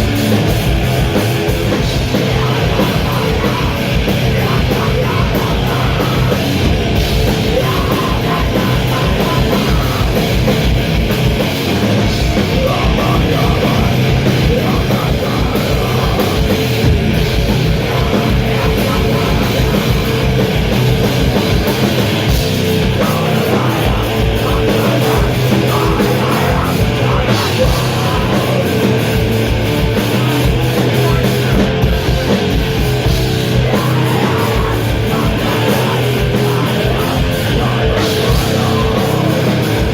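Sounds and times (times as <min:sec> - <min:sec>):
distorted guitars and bass: 0:00.0 - 0:39.9
drums: 0:00.0 - 0:39.9
rapid kick drum beats: 0:00.0 - 0:39.9.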